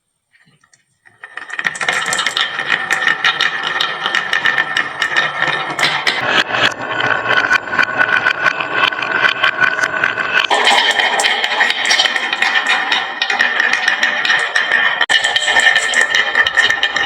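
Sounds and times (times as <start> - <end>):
marbles rolling down wooden track: 1.1 - 17.0.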